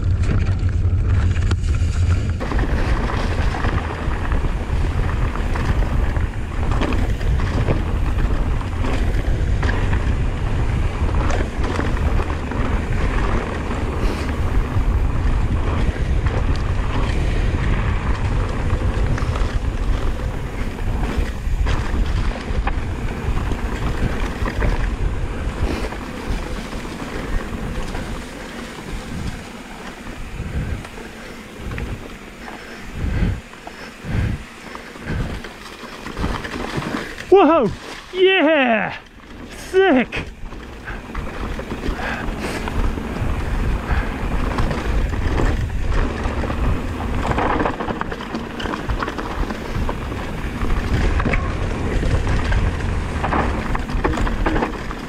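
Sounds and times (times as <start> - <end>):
bike rattling clicks and knocks: 0.0 - 55.0
bike tyre noise: 0.0 - 55.0
wind rushing over microphone: 0.0 - 55.0.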